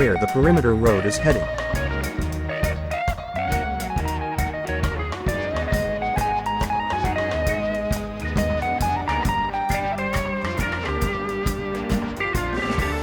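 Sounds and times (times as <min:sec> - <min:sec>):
drum kit beat: 0:00.0 - 0:13.0
electric guitar: 0:00.0 - 0:13.0.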